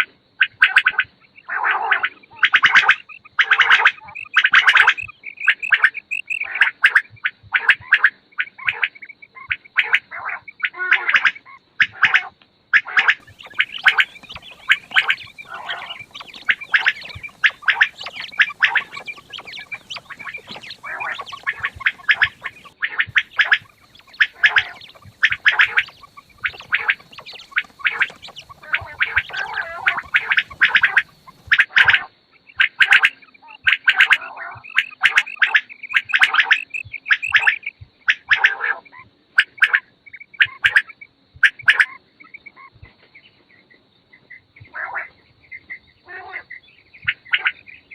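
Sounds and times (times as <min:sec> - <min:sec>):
quails calling: 0:00.0 - 0:47.9.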